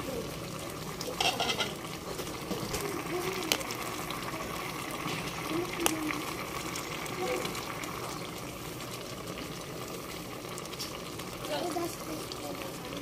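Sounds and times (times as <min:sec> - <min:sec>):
liquid bubbling in a pot: 0:00.0 - 0:13.0.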